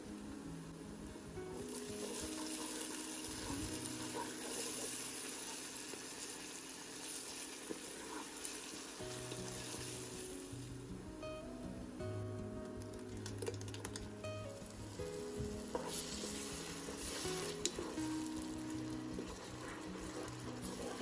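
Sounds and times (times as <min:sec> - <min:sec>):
crackling hiss: 0:00.0 - 0:21.0.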